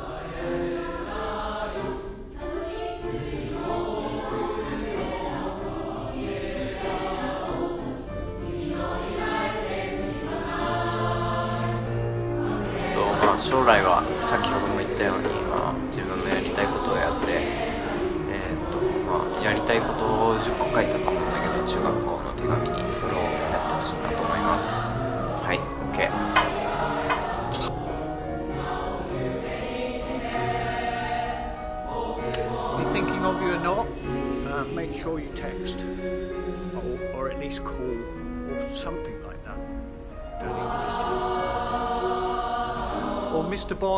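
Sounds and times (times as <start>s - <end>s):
choir singing held notes: 0.0s - 38.7s, 39.6s - 43.9s.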